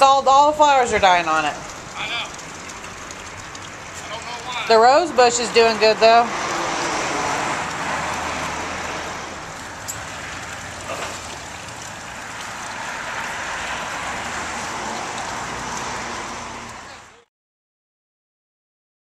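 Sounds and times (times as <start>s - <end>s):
outdoor background noise: 0.0s - 17.3s.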